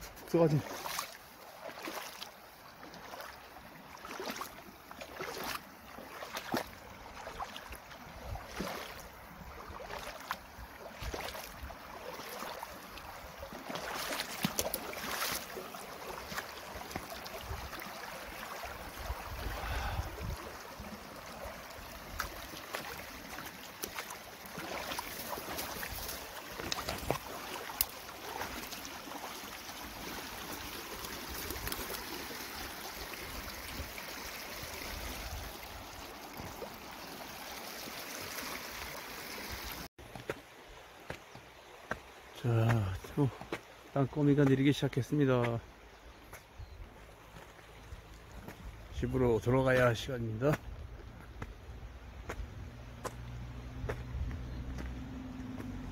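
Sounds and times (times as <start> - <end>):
stream flowing: 0.0 - 55.9.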